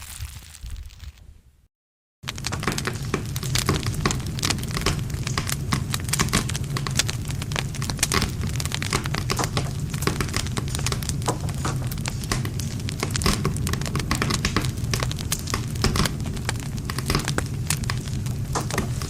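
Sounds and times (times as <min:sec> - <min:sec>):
burning wood crackling and popping: 0:00.0 - 0:01.3, 0:02.2 - 0:19.0
campfire flame rumble: 0:02.2 - 0:19.0.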